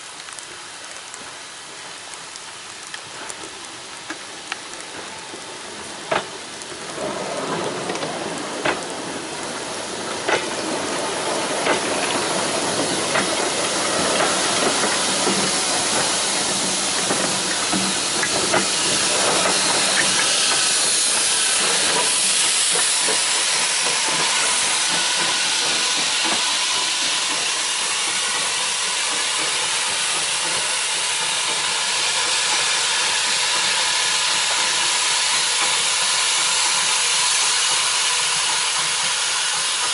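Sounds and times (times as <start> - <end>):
steam engine hissing: 0.0 - 39.9.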